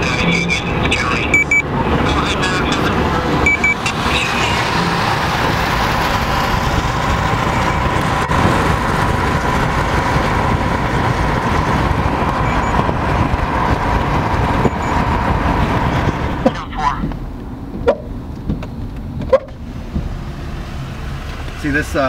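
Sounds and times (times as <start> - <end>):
road and engine noise: 0.0 - 22.0.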